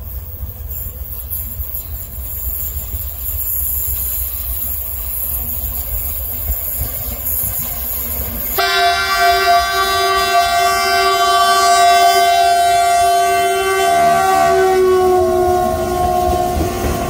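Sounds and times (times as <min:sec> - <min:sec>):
electric locomotive hooter blast: 0:00.0 - 0:17.0.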